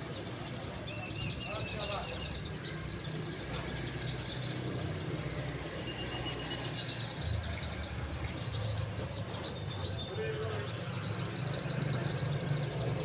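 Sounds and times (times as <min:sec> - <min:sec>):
birds trilling and chattering: 0:00.0 - 0:13.0.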